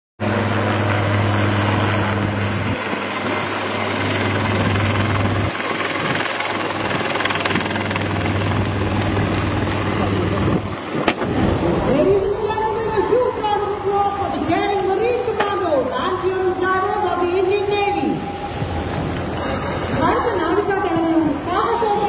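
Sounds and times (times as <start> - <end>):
helicopter flying overhead: 0.2 - 22.0.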